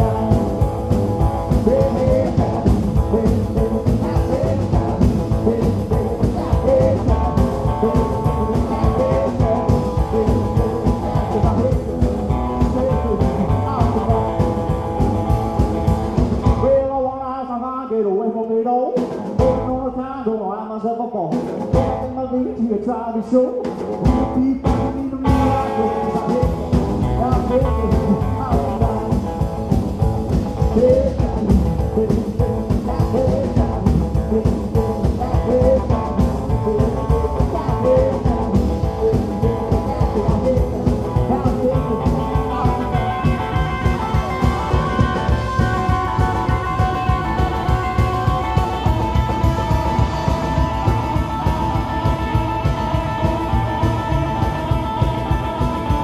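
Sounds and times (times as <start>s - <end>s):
rockabilly band playing: 0.0s - 17.7s, 18.4s - 56.0s.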